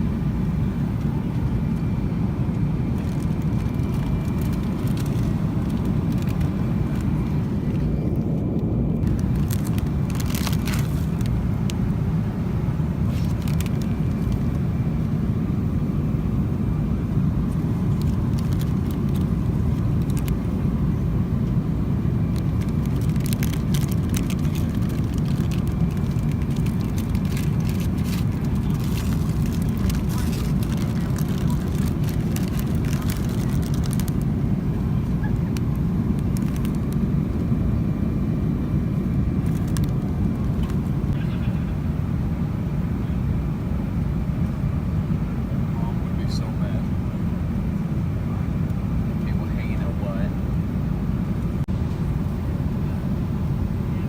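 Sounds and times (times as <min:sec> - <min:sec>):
airplane cabin roar: 0:00.0 - 0:54.0.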